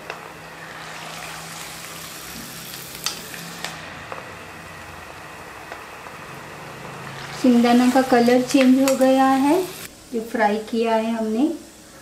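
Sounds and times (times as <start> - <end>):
peanuts sizzling in hot oil: 0.0 - 12.0.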